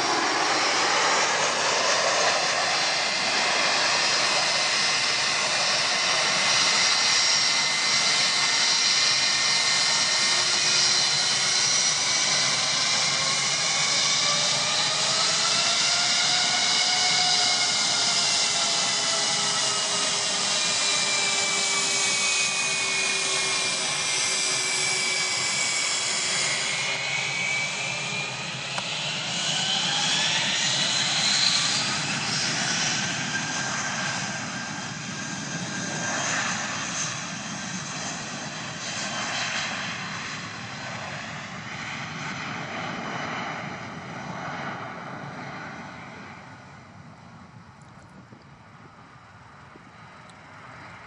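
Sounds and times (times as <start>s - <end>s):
jet engines whining: 0.0s - 51.0s.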